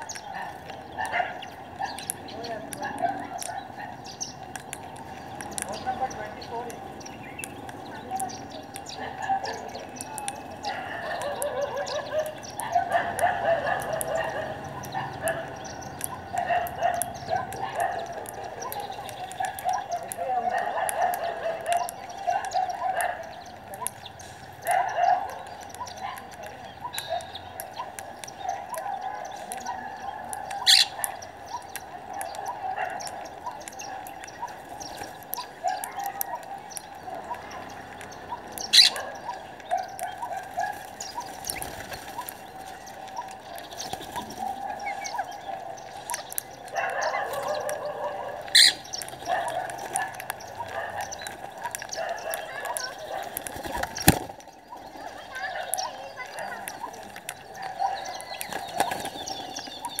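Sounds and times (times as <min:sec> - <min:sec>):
parakeets chattering and chirping: 0:00.0 - 1:00.0.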